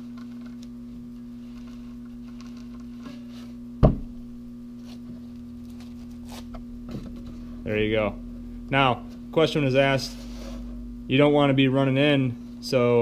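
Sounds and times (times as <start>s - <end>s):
transformer electrical hum: 0.0s - 13.0s.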